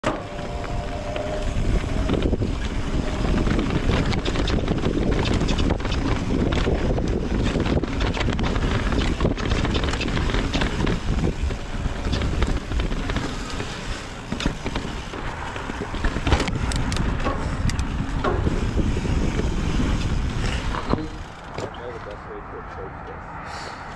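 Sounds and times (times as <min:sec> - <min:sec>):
bike rattling clicks and knocks: 0:00.0 - 0:22.1
bike tyres on dirt: 0:00.0 - 0:22.3
wind buffeting microphone: 0:00.0 - 0:23.9.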